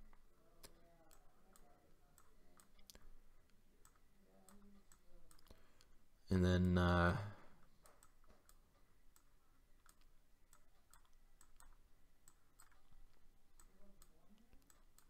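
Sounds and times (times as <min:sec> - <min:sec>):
computer mouse clicking: 0:00.0 - 0:06.0, 0:07.6 - 0:15.0.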